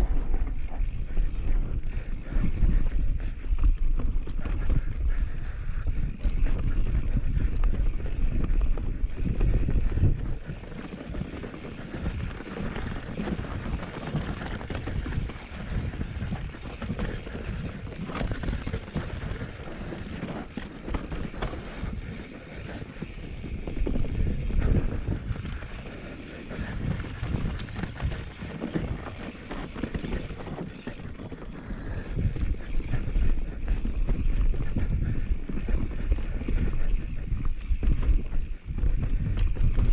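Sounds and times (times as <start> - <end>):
wind buffeting microphone: 0.0 - 39.9
tyres rumbling on dirt and rock: 5.8 - 39.9.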